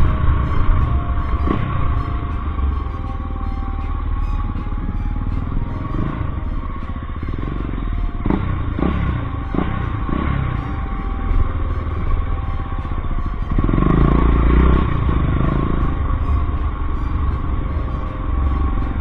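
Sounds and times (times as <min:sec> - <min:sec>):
background music: 0:00.0 - 0:19.0
motorcycle engine running: 0:00.0 - 0:19.0.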